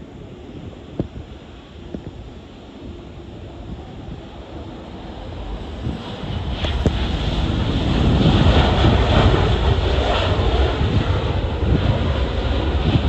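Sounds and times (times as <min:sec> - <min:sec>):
jet engines roaring: 0:00.0 - 0:13.0
wind buffeting microphone: 0:00.0 - 0:13.0.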